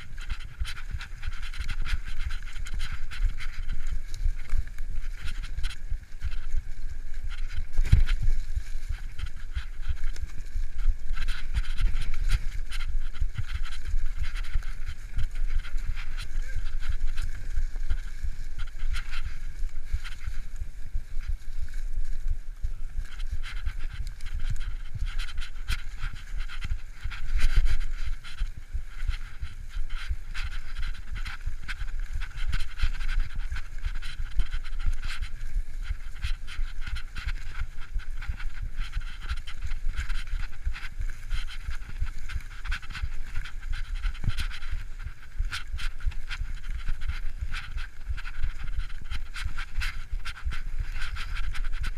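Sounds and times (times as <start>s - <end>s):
bike tyres clattering over trail: 0.0s - 51.9s.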